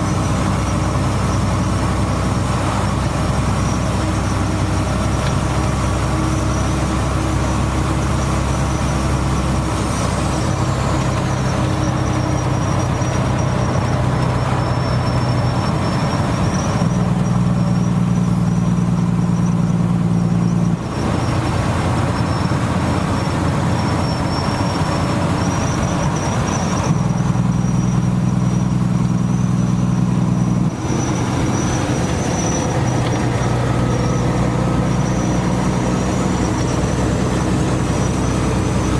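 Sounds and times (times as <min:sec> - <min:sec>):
thin high whine: 0:00.0 - 0:38.9
vehicle engine humming: 0:00.0 - 0:38.9.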